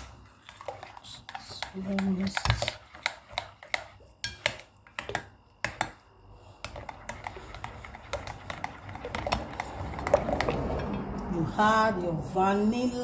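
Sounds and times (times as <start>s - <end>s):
metal spoon stirring in bowl: 0.0s - 11.2s.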